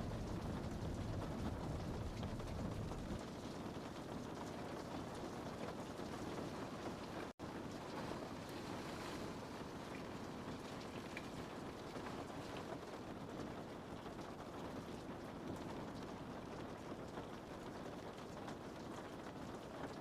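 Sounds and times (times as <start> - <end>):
rain pattering on a window: 0.0 - 20.0.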